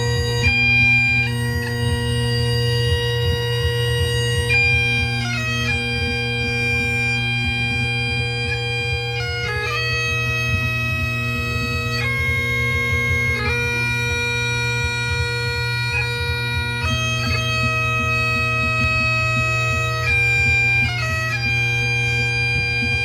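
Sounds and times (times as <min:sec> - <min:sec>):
bagpipes playing slow tune: 0:00.0 - 0:23.0.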